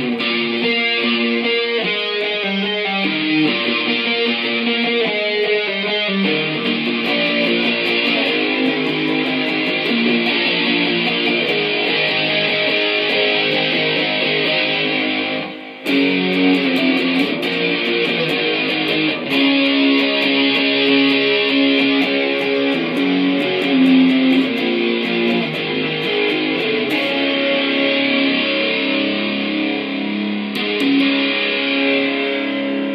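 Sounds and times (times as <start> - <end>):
electric guitar rock riffs: 0.0 - 32.9.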